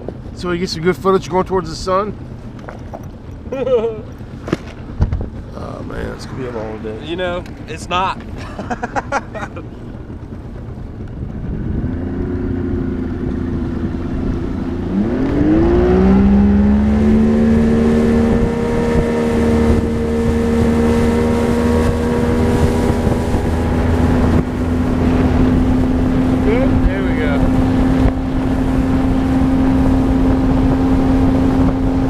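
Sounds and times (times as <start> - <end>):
outboard motor accelerating: 0.0 - 32.0.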